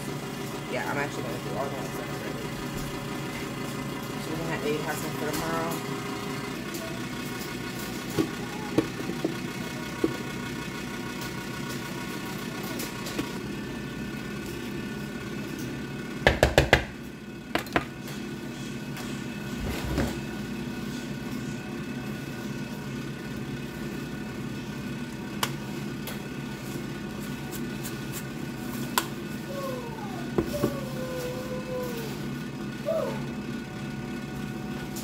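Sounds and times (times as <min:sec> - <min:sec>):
appliance motor humming: 0:00.0 - 0:35.0.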